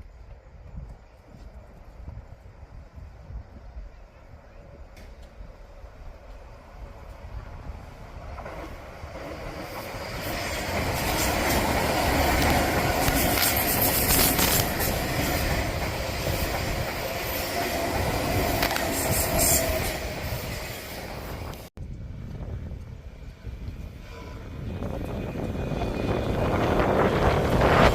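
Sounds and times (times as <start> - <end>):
electric train passing at speed: 0.0 - 27.9.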